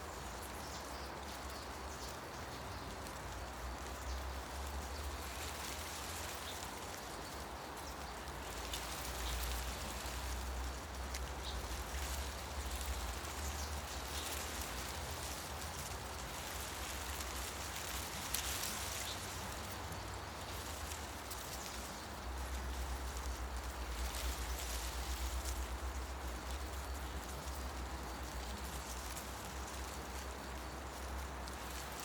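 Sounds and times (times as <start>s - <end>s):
wind rustling leaves: 0.0s - 32.0s.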